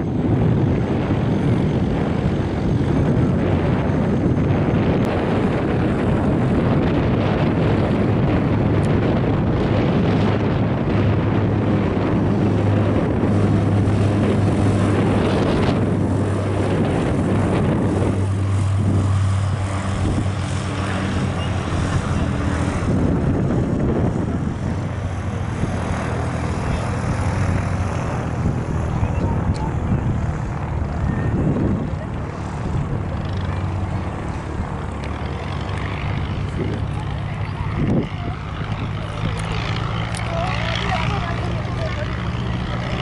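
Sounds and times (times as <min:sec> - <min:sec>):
turboprop engines droning: 0:00.0 - 0:43.0.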